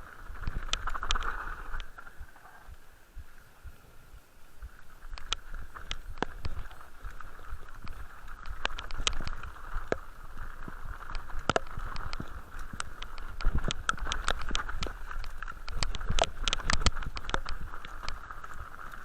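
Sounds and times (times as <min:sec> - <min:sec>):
horse hooves walking: 0:00.0 - 0:19.0
steady hiss: 0:00.0 - 0:19.0.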